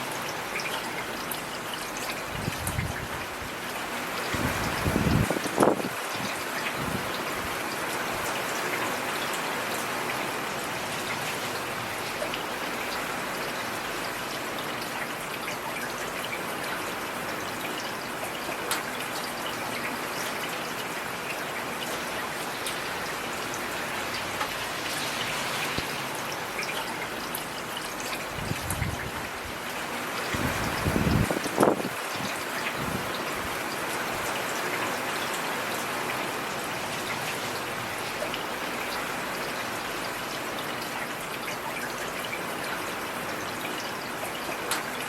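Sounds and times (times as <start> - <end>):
heavy rain falling: 0.0 - 45.0.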